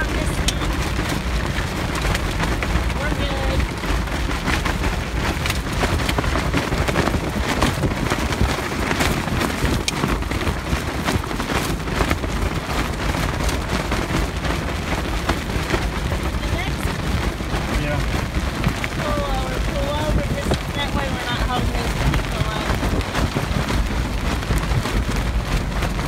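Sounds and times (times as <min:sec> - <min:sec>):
rain pattering on tarp: 0:00.0 - 0:26.0
tarp flapping in wind: 0:00.0 - 0:26.0
wind and road noise: 0:00.0 - 0:26.0.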